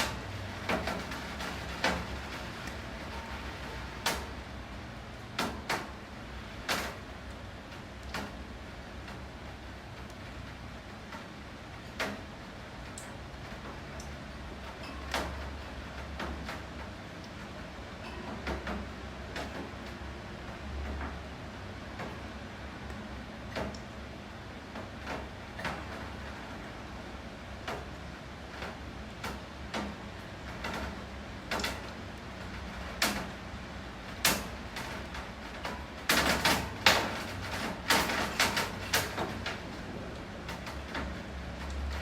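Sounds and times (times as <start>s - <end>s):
rain hissing: 0.0s - 18.0s, 18.8s - 42.0s.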